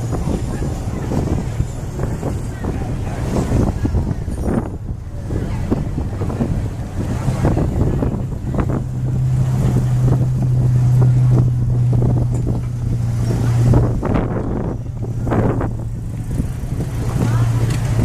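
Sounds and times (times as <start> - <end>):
low engine hum: 0.0 - 18.0
wind buffeting microphone: 0.0 - 18.0.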